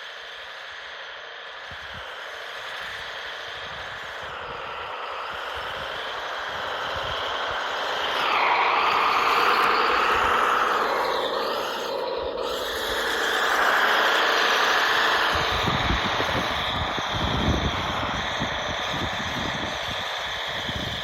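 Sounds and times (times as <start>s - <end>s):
electric motor whining: 3.6s - 21.0s.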